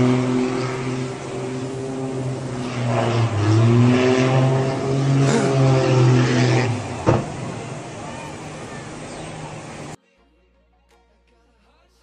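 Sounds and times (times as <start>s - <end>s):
aircraft engine running: 0.0s - 10.0s.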